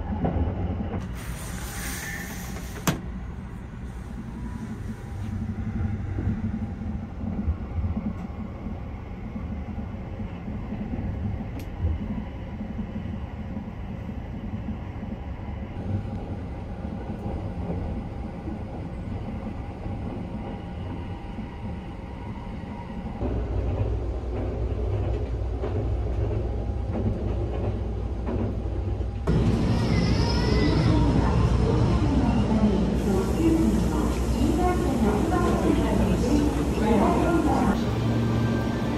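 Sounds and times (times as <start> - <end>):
train running low rumble: 0.0 - 38.9.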